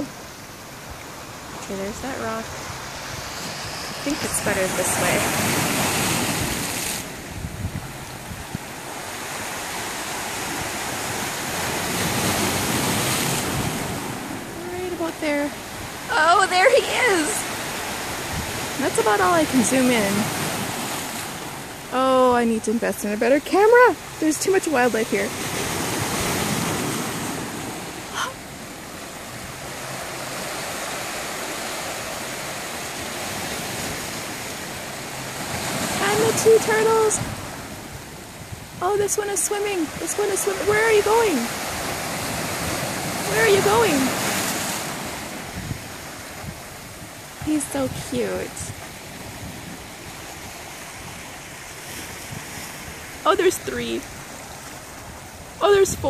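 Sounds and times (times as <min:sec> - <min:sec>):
surf breaking on rocks: 0:00.0 - 0:56.0
wind rumbling on microphone: 0:00.0 - 0:56.0.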